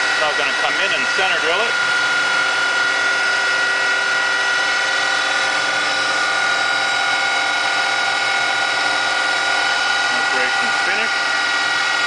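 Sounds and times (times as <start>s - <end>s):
lathe whining while drilling: 0.0s - 12.0s.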